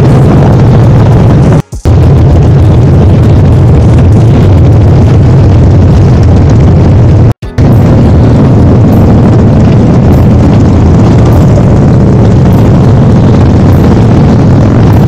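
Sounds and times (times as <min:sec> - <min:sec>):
motorcycle engine rumble: 0:00.0 - 0:15.0
wind rushing over microphone: 0:00.0 - 0:15.0.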